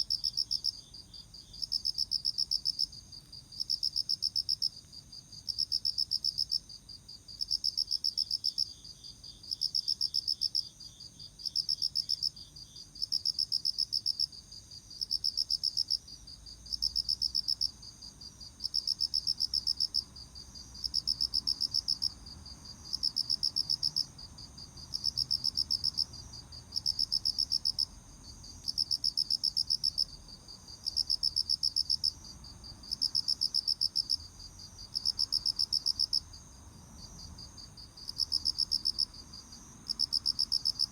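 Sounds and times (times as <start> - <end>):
cricket chirping trills: 0.0 - 40.9.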